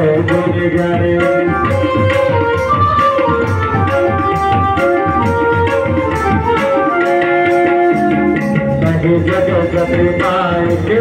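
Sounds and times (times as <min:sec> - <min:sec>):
tabla beat: 0:00.0 - 0:11.0
sustained keyboard melody: 0:00.3 - 0:11.0.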